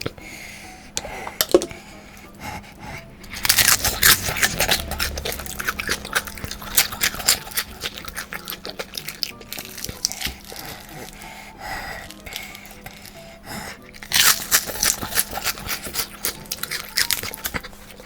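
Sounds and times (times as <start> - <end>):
crunching and chewing food: 0.0 - 18.0.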